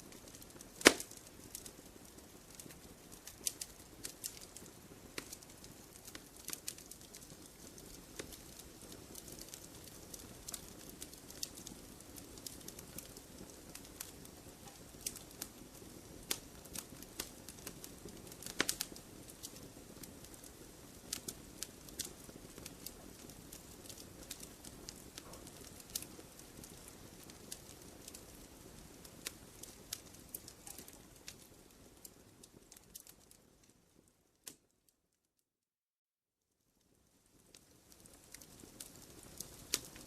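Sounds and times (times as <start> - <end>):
wood fire crackling: 0.0 - 34.8, 36.8 - 40.0
faint low hiss: 0.0 - 35.3, 36.5 - 40.0.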